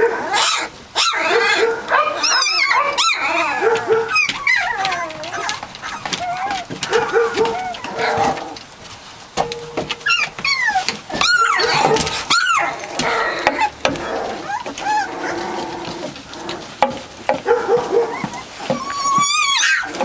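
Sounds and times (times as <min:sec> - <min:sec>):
puppies yipping and whining: 0:00.0 - 0:08.8, 0:09.5 - 0:20.0.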